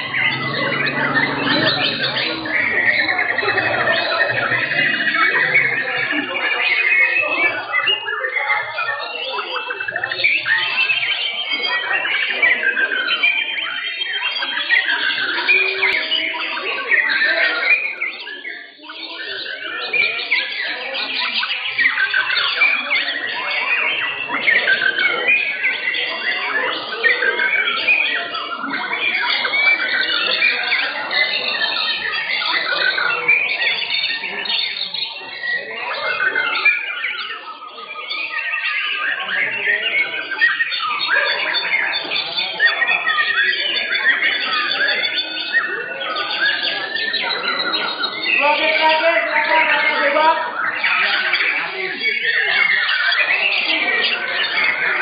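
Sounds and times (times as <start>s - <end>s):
songbirds whistling and chirping: 0.0s - 55.0s.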